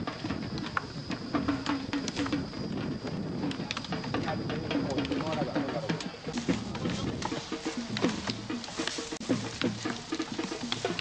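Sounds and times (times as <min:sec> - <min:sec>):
percussion music: 0:00.0 - 0:11.0.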